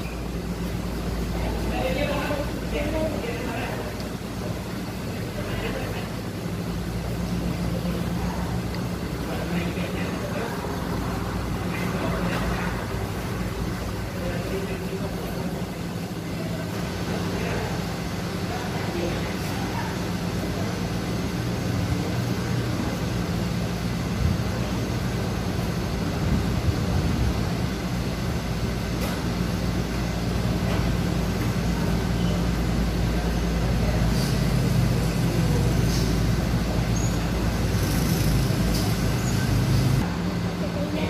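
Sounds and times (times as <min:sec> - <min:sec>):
low hum and rumble: 0:00.0 - 0:41.0.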